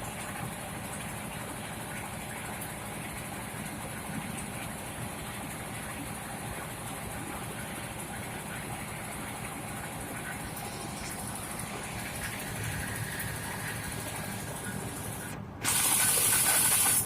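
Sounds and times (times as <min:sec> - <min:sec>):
mill machine droning: 0:00.0 - 0:17.0.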